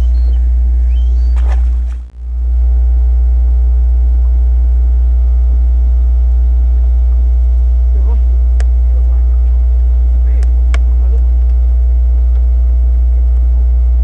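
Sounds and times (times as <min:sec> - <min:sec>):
loud low hum: 0:00.0 - 0:14.0.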